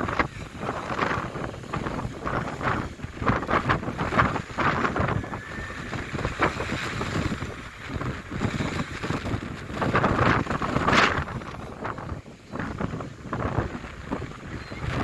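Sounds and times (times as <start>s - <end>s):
stormy sea surf: 0.0s - 15.0s
wind buffeting microphone: 0.0s - 15.0s.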